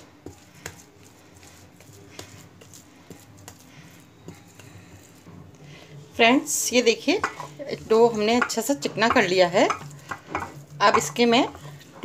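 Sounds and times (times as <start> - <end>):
dough squishing: 0.0 - 12.0.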